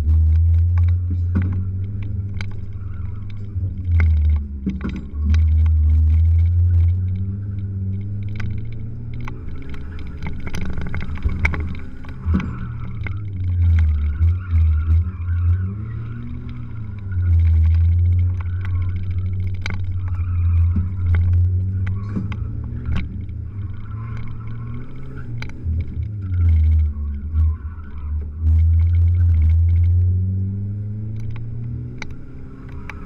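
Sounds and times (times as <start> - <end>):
clicks and rattles: 0.0 - 30.2, 31.0 - 33.0
race truck engine revving: 0.0 - 33.0.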